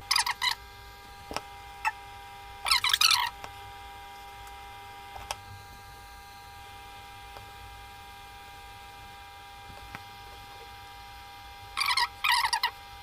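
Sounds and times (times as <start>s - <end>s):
high-pitched whine tones: 0.0s - 13.0s
low electrical hum: 0.0s - 13.0s.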